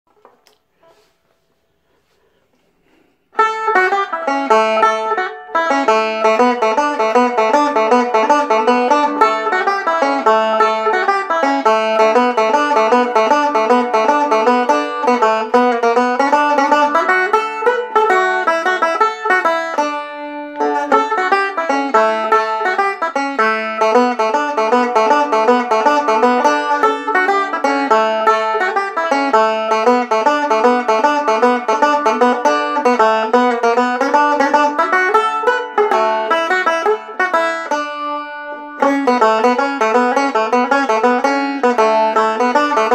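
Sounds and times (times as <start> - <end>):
banjo picking: 0.1 - 2.2, 2.8 - 42.9.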